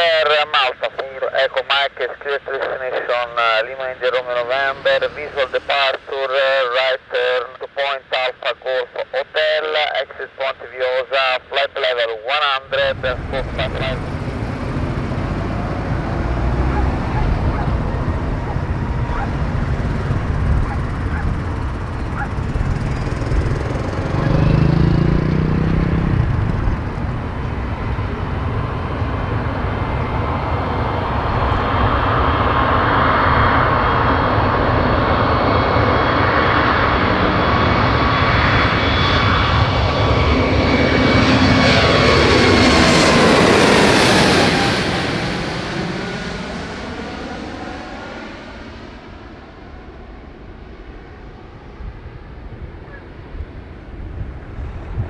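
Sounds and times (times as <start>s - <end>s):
jet engines at takeoff thrust: 3.9s - 6.3s, 12.7s - 55.0s.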